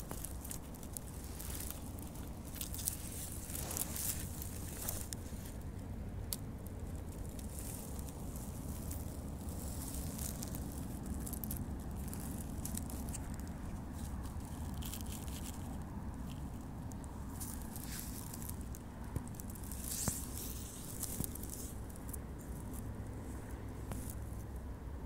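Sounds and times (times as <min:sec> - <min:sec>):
twig cracking: 0:00.0 - 0:05.6, 0:06.2 - 0:22.9
pine needles rustling underfoot: 0:00.0 - 0:24.6.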